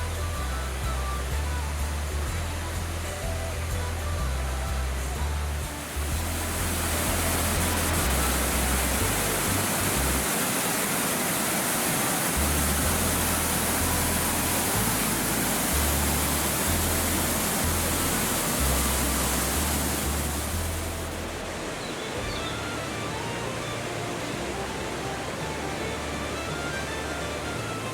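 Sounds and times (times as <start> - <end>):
background music with deep bass: 0.0 - 10.3, 12.4 - 27.9
waterfall rushing: 0.0 - 27.9.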